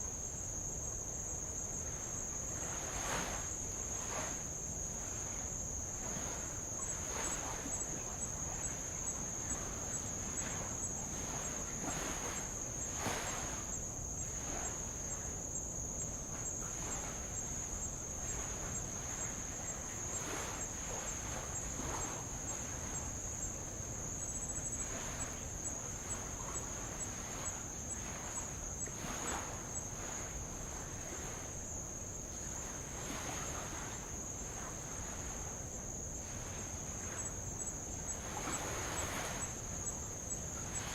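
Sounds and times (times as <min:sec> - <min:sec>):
high-pitched insect chorus: 0:00.0 - 0:40.9
waves lapping against rock: 0:02.6 - 0:24.2, 0:24.8 - 0:40.9.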